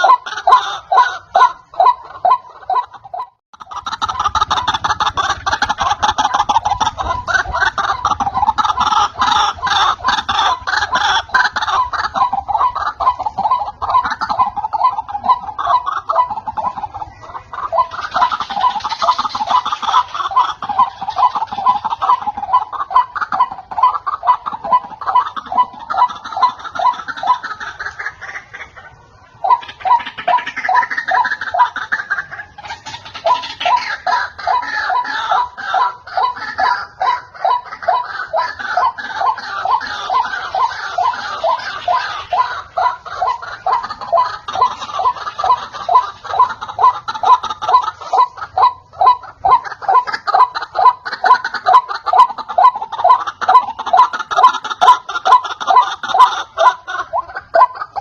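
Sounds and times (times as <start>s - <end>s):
waterhen calling harsh notes: 0.0s - 58.0s.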